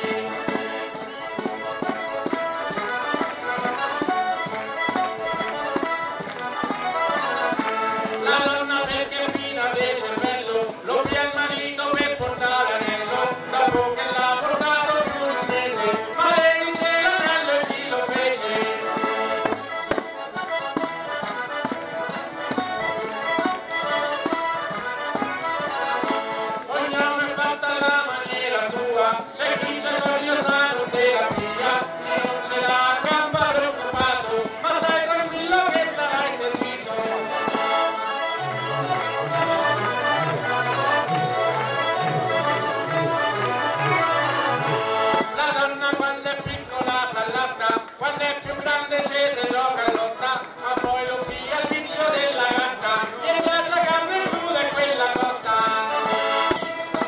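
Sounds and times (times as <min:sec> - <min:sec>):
folk music with steady beat: 0:00.0 - 0:57.0.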